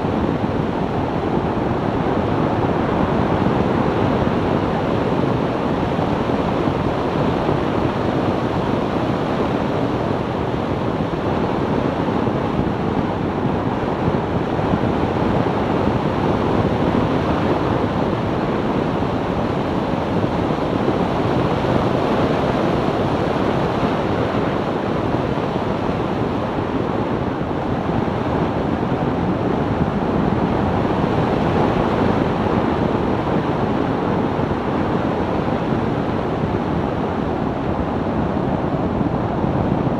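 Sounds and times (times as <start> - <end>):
wind and road noise: 0.0 - 39.9
wind buffeting microphone: 0.0 - 39.9.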